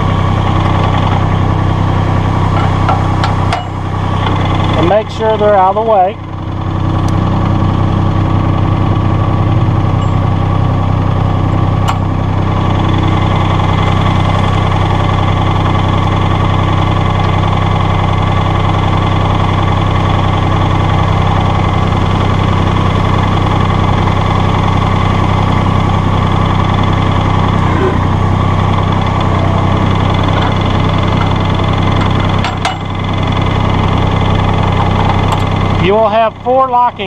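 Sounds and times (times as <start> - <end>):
tractor diesel engine idling: 0.0 - 37.0.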